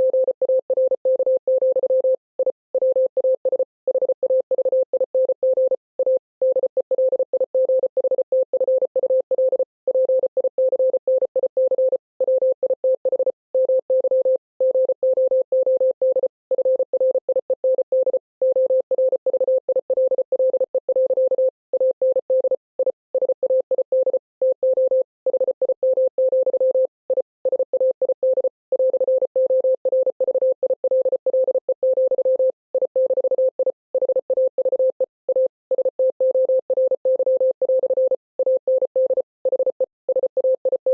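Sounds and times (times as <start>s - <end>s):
morse code beeps: 0.0s - 40.9s.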